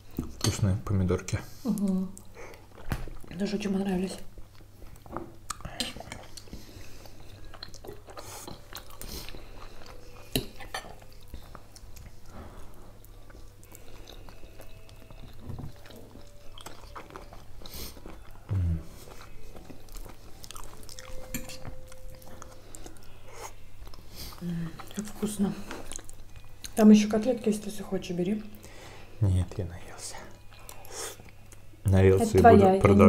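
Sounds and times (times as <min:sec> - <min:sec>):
people chewing and biting: 0:01.6 - 0:03.4, 0:04.3 - 0:26.9, 0:30.2 - 0:32.5.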